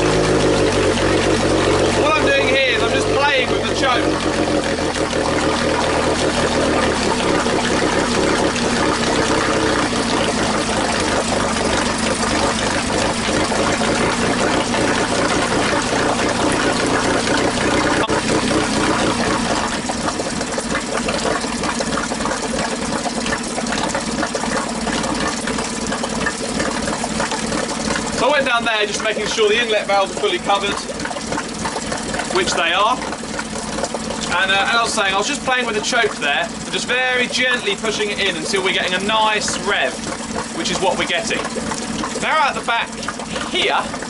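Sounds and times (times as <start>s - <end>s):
outboard motor idling: 0.0s - 44.0s
water splashing: 0.0s - 44.0s.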